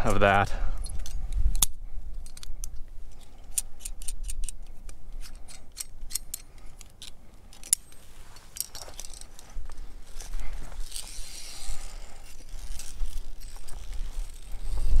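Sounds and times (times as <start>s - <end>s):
carabiners clicking on steel cable: 0.8s - 15.0s.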